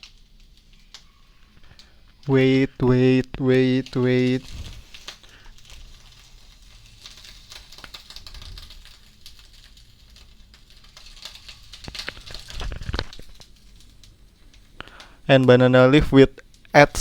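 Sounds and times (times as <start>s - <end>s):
leaf crackling in a hot pan: 0.0s - 17.0s.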